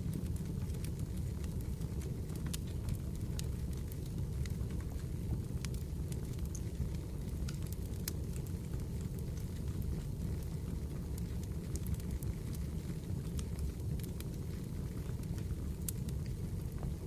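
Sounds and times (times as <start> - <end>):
fireplace crackling: 0.0 - 17.0.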